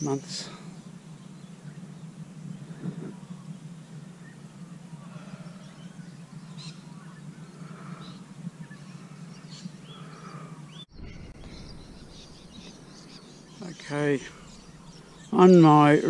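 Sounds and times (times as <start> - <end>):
low hum: 0.0 - 16.0
water birds calling: 0.0 - 16.0
wind rumble on microphone: 0.8 - 15.9.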